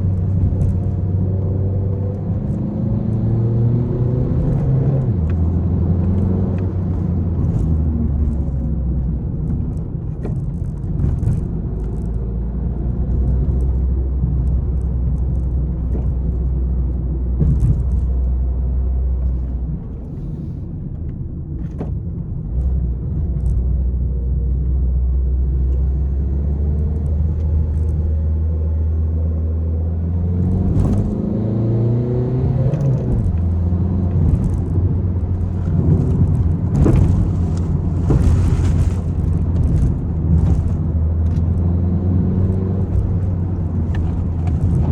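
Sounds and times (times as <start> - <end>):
car engine drone and revving: 0.0 - 44.9
road rumble: 0.0 - 44.9.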